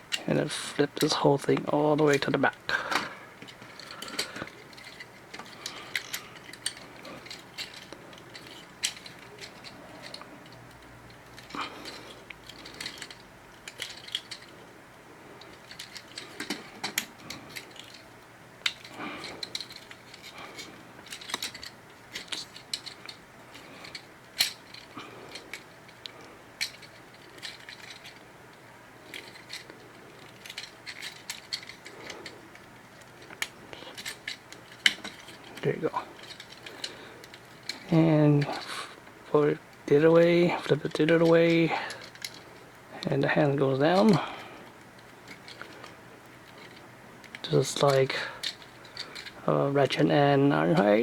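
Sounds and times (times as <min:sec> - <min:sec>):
handling rustle: 0:00.0 - 0:51.0
plastic toy parts clicking: 0:02.9 - 0:14.6, 0:15.4 - 0:28.2, 0:29.1 - 0:35.6, 0:36.2 - 0:38.7, 0:40.7 - 0:43.2, 0:43.8 - 0:50.1.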